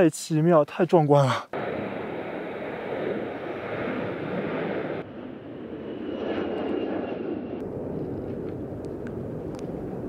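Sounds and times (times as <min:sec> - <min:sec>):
jet engines at takeoff thrust: 0:01.6 - 0:10.0.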